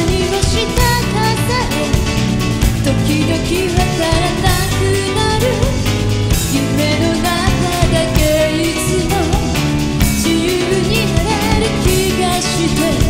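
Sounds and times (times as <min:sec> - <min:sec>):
band with drums: 0:00.0 - 0:13.0
woman singing pop ballad: 0:00.0 - 0:13.0.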